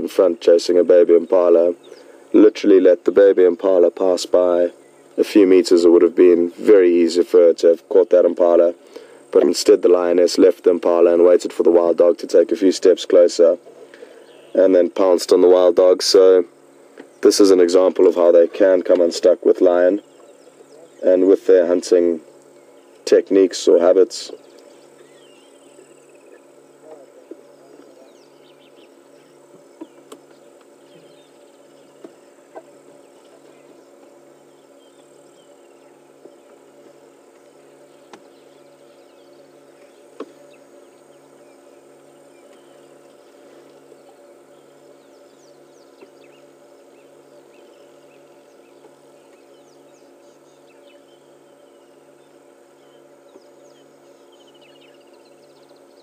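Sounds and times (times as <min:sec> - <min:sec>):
bird calls: 0:00.0 - 0:56.0
faint insects: 0:00.0 - 0:56.0
steady low hum: 0:00.0 - 0:56.0.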